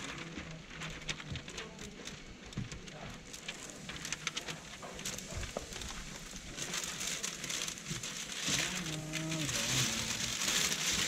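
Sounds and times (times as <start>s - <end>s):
plastic film crackling and crinkling: 0.0s - 11.0s.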